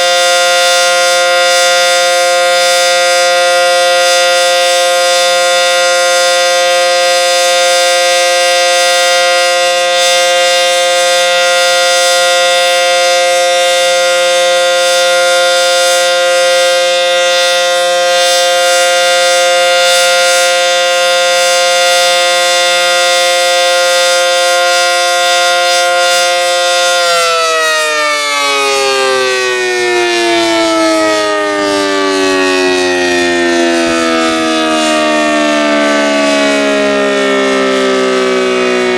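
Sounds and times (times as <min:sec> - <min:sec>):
warning siren chord: 0:00.0 - 0:38.9.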